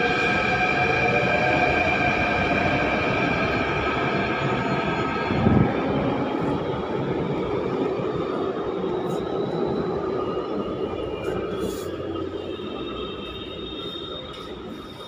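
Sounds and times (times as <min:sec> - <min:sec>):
train running: 0:00.0 - 0:15.0.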